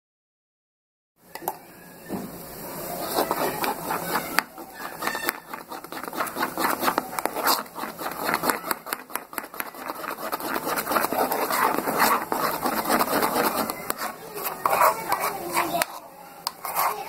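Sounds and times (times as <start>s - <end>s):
wet slapping of batter: 3.2s - 17.0s.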